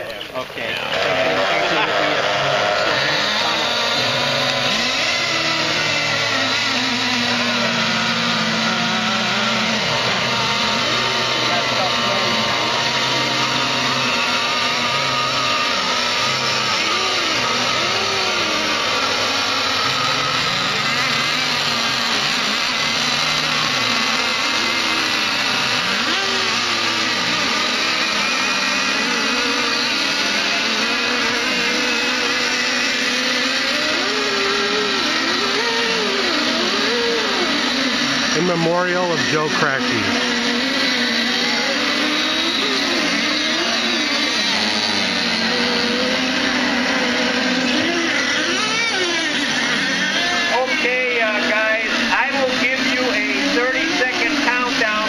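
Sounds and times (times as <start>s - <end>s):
model boat engines revving: 0.0s - 55.0s.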